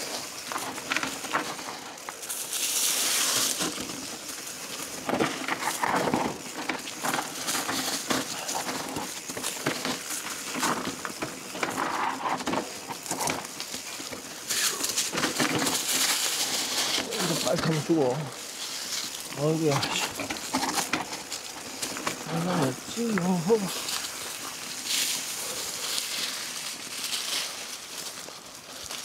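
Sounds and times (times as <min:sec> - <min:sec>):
bike rattling: 0:00.0 - 0:29.0
tyres crunching on gravel: 0:00.0 - 0:29.0.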